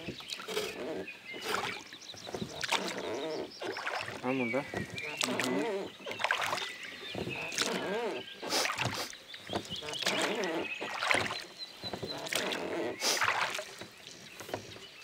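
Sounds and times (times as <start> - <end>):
oars splashing and knocking: 0.0 - 15.0.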